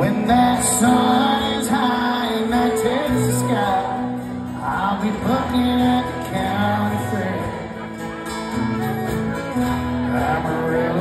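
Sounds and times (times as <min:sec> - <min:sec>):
strummed acoustic guitars: 0:00.0 - 0:11.0
fiddle melody with slides: 0:01.0 - 0:11.0.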